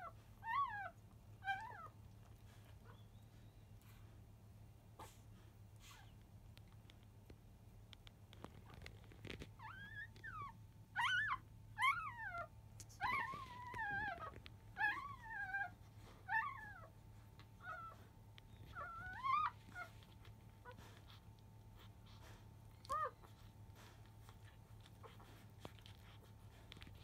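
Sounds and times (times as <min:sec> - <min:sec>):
puppies whining and squealing: 0:00.0 - 0:04.1, 0:08.7 - 0:27.0.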